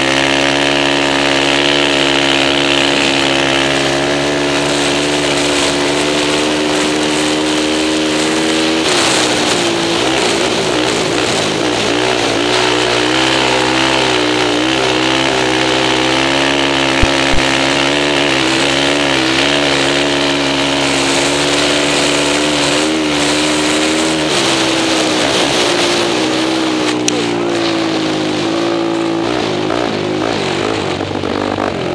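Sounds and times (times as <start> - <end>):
quad bike engine racing: 0.0 - 31.9.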